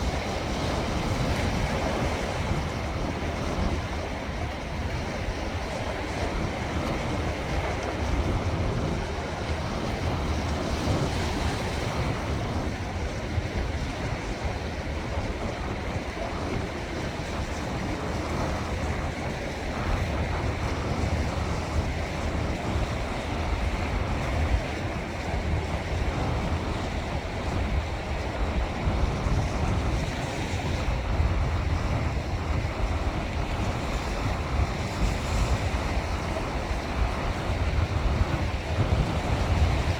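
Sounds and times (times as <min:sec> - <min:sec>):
sea waves washing in: 0:00.0 - 0:39.9
wind buffeting microphone: 0:00.0 - 0:39.9.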